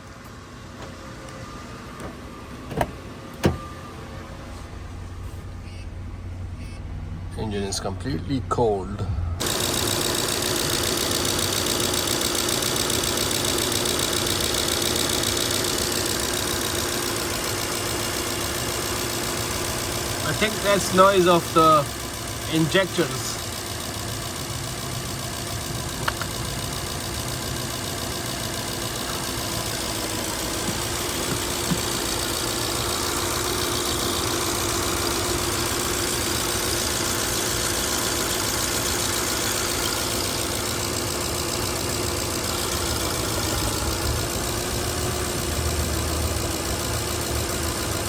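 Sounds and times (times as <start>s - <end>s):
car engine idling: 0.0s - 48.0s
light engine ticking: 9.4s - 48.0s.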